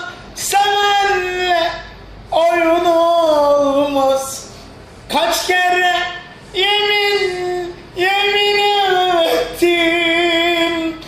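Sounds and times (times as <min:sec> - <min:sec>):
man singing unaccompanied: 0:00.0 - 0:04.4, 0:05.1 - 0:11.0.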